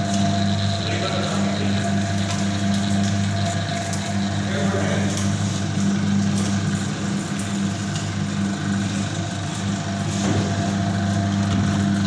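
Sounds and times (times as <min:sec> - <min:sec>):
juice machine motor hum: 0:00.0 - 0:12.0.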